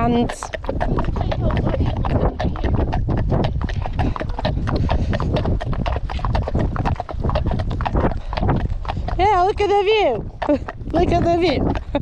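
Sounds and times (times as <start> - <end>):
horse hooves clip-clopping: 0.0 - 12.0.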